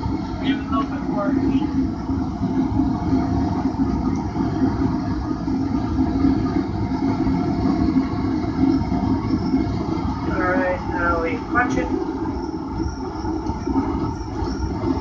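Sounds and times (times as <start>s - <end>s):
constant low hum: 0.0s - 15.0s
forge rumbling: 0.0s - 15.0s.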